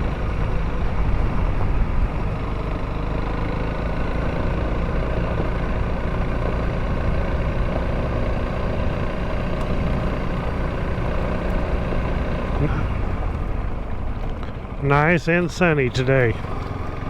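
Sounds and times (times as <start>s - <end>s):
motorcycle engine running: 0.0s - 17.0s
tyre and road rumble: 0.0s - 17.0s.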